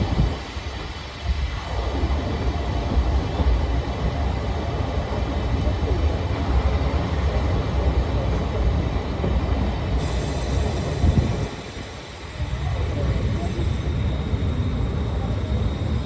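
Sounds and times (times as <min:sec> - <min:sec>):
train coach rumbling on rails: 0:00.0 - 0:16.0.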